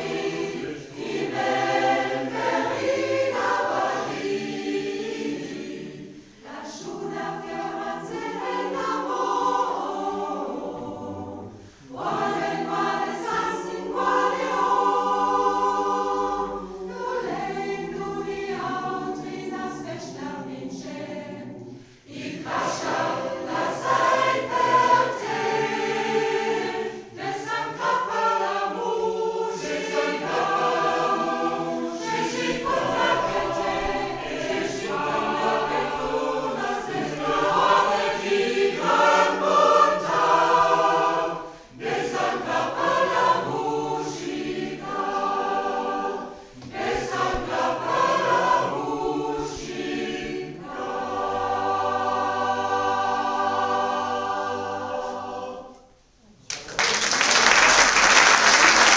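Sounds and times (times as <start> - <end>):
mixed choir singing in harmony: 0.0 - 56.2.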